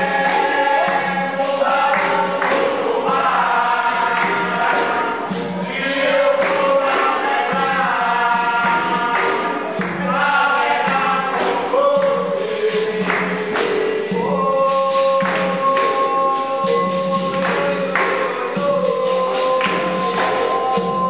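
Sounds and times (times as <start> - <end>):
group singing: 0.0 - 21.0
hand drum playing a steady rhythm: 0.0 - 21.0
pandeiro tambourine: 0.0 - 21.0
people clapping along: 0.0 - 21.0.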